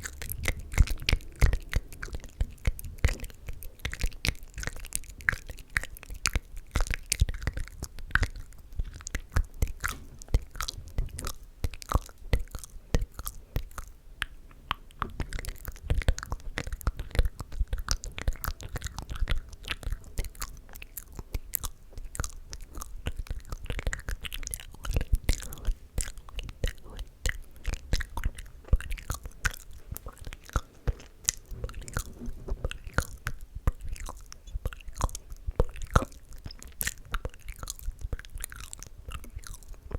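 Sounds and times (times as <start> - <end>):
wet mouth clicks and smacks: 0.0 - 39.9.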